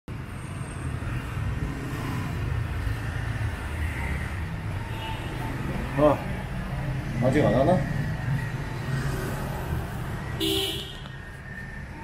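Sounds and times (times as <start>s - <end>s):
road traffic rumble: 0.1s - 12.0s.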